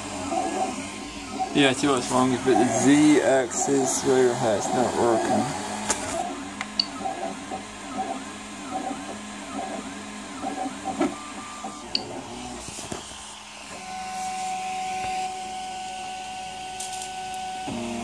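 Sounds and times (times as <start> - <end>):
steady hum: 0.0 - 17.0
stepper motors whining: 0.0 - 18.0.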